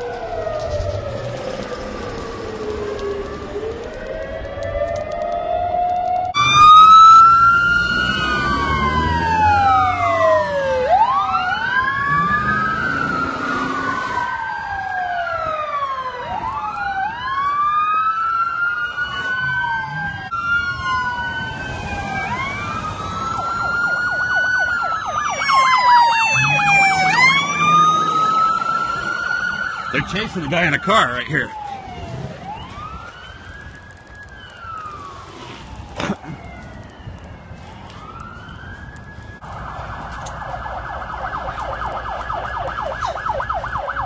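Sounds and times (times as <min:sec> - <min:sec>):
vehicle engines passing: 0:00.0 - 0:04.8, 0:06.4 - 0:17.0, 0:18.6 - 0:44.0
police sirens wailing: 0:00.0 - 0:44.0
siren warbling yelp: 0:00.0 - 0:44.0.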